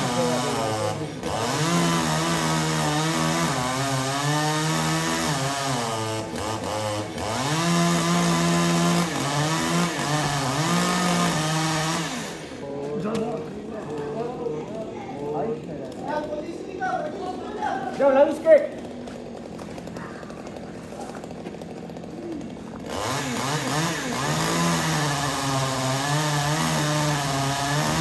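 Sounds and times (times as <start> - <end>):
chainsaw cutting wood: 0.0 - 17.1, 18.0 - 28.0.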